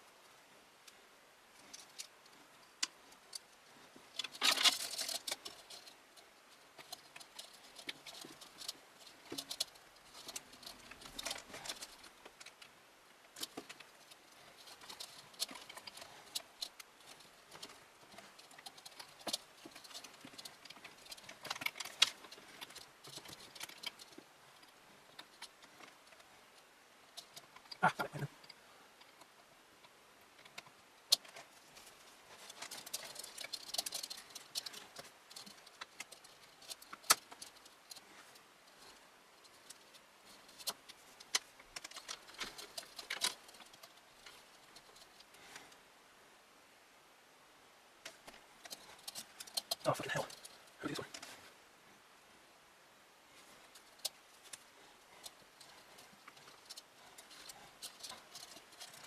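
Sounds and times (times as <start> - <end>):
clatter of small parts: 1.6 - 26.4, 30.3 - 45.7, 48.0 - 51.4, 53.4 - 59.0.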